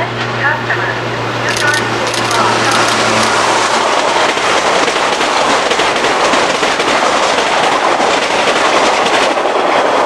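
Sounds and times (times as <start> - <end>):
train wheels clattering over rails: 1.5 - 10.0.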